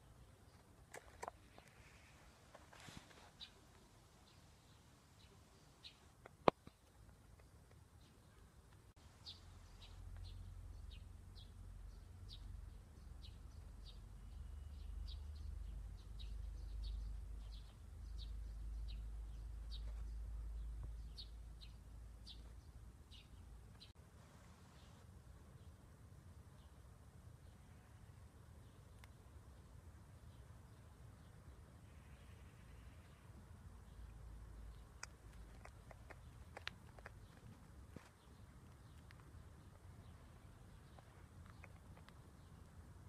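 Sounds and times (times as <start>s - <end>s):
small bird chirping: 0.0s - 24.0s, 27.4s - 43.0s.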